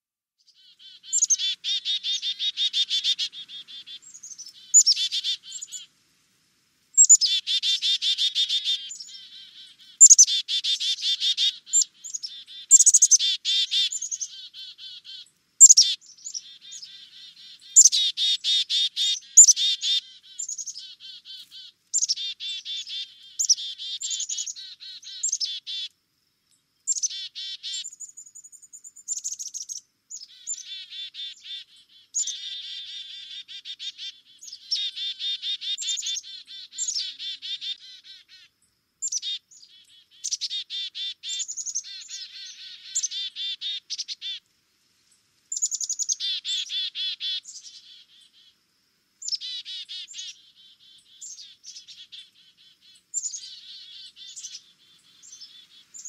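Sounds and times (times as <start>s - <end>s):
chickadee calling: 0.4s - 5.9s, 6.9s - 26.0s, 26.8s - 44.5s, 45.5s - 48.6s, 49.2s - 56.0s.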